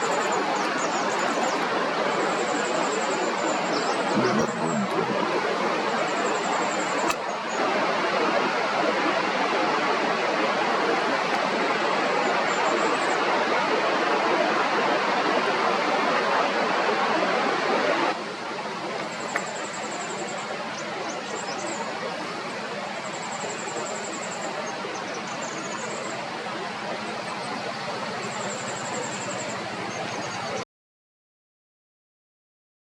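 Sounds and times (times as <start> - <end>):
running water rushing: 0.0 - 30.6.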